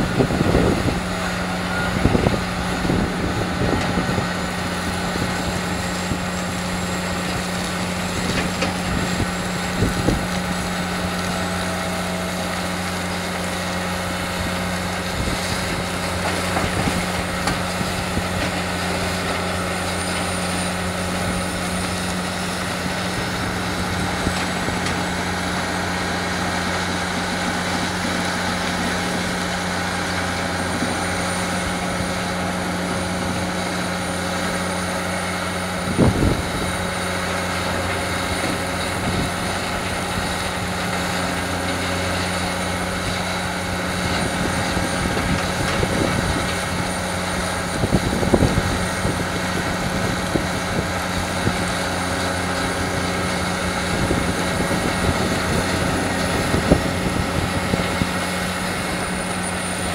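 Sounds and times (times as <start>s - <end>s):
diesel crushing plant droning: 0.0s - 59.9s
excavator working: 0.0s - 59.9s.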